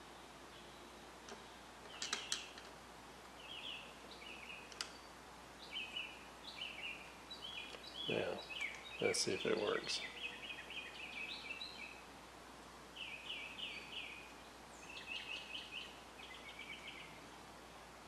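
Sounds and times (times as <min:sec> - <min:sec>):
faint bird song: 0:00.0 - 0:12.2, 0:12.9 - 0:18.0.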